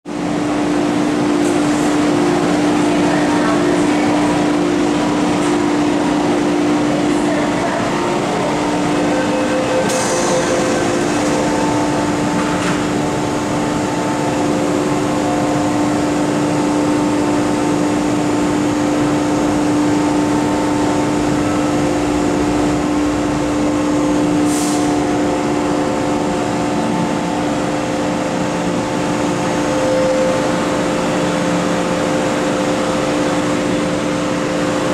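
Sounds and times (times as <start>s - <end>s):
electric train hum: 0.1s - 34.9s.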